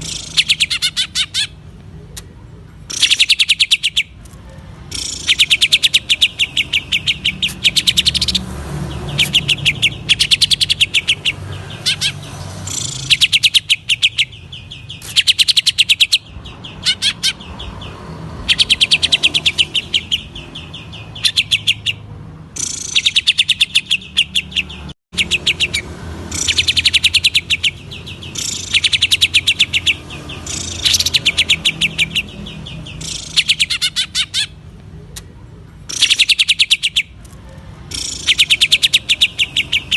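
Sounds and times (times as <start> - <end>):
bird singing sharp high notes: 0.0 - 1.6, 2.9 - 4.2, 4.9 - 34.6, 37.9 - 39.9.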